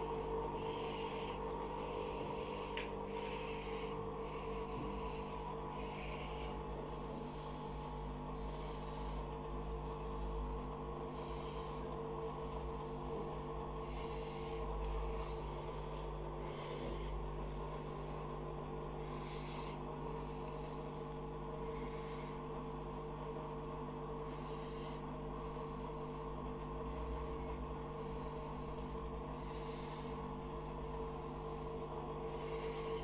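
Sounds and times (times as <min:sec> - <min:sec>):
steady electrical hum: 0:00.0 - 0:33.0.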